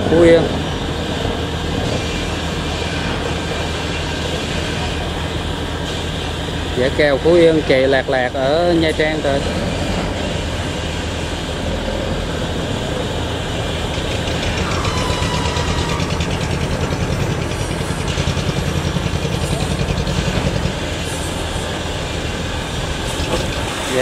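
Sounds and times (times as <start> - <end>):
boat diesel engine running: 0.0 - 24.0.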